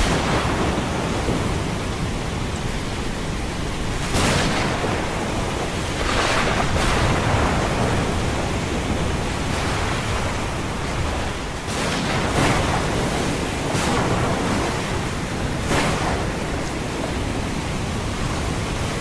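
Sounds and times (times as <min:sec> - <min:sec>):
deep rumble of surf: 0:00.0 - 0:19.0
ocean waves washing: 0:00.0 - 0:19.0
wave breaking: 0:00.0 - 0:19.0.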